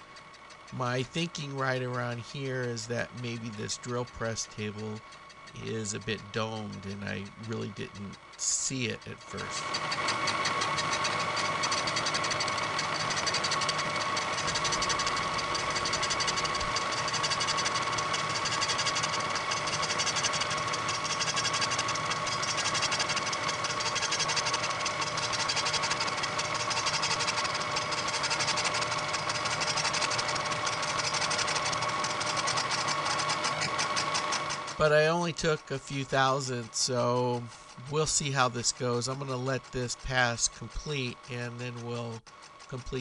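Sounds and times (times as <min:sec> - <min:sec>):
milling machine whine with ticking: 0:00.0 - 0:43.0.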